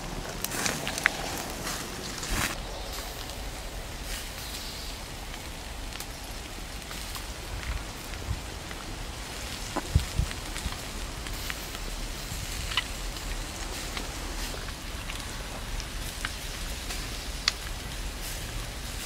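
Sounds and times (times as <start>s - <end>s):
meat sizzling on a grill: 0.4s - 19.0s.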